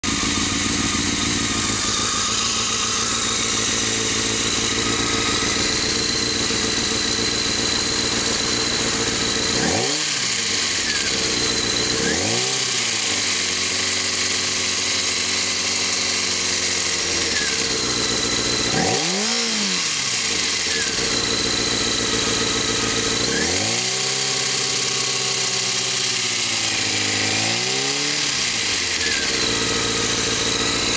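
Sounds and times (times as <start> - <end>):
engine rattling: 0.0 - 30.9
motorcycle engine revving: 0.0 - 30.9.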